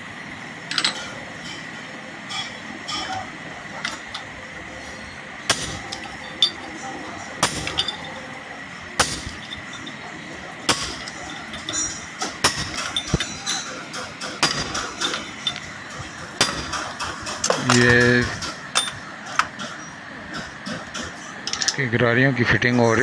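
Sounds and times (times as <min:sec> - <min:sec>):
metal parts clinking: 0:00.6 - 0:01.7, 0:02.3 - 0:08.4, 0:09.0 - 0:19.9, 0:20.9 - 0:21.8
hammer striking steel: 0:02.3 - 0:08.3, 0:08.9 - 0:21.6.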